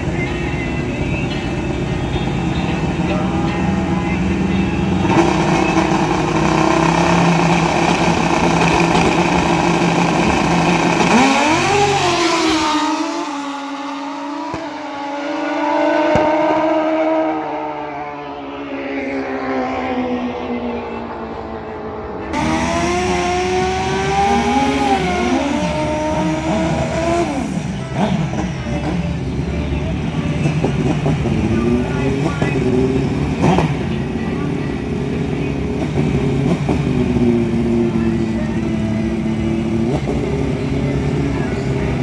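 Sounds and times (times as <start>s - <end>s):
racing motorcycle engines: 0.0s - 42.0s.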